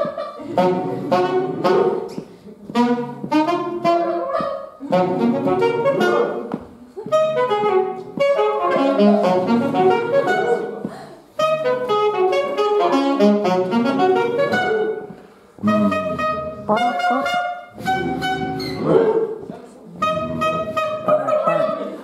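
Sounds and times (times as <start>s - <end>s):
solo saxophone playing: 0.4s - 2.1s, 2.7s - 19.0s, 20.0s - 21.5s.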